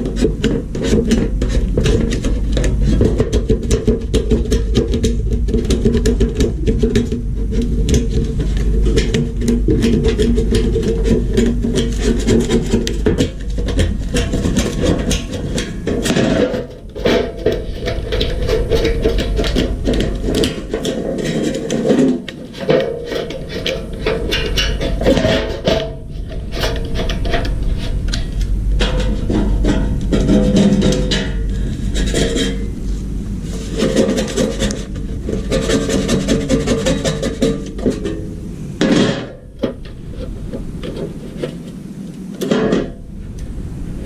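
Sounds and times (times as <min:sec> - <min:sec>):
rough rasping and scraping: 0:00.0 - 0:43.4.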